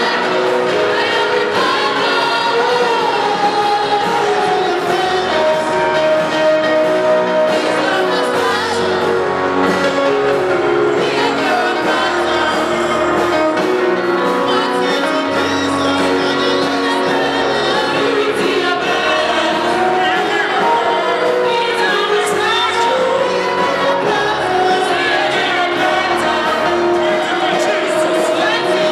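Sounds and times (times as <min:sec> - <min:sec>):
gospel singing: 0:00.0 - 0:28.9
instrumental backing: 0:00.0 - 0:28.9.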